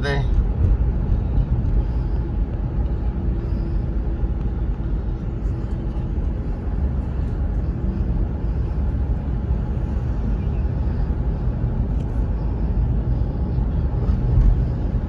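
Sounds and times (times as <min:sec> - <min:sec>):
car engine and tyre noise: 0:00.0 - 0:15.0
faint steady hum: 0:00.1 - 0:15.0.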